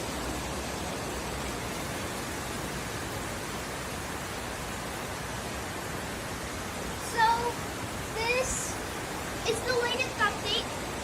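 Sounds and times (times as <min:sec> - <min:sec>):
storm wind and rain hiss: 0:00.0 - 0:11.0.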